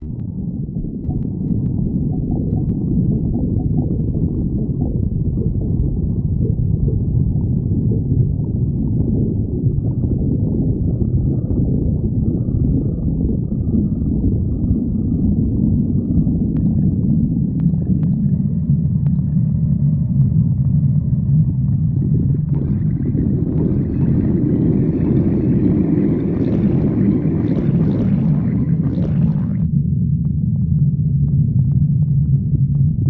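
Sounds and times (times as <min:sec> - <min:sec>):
stomach growling: 0:00.0 - 0:29.8.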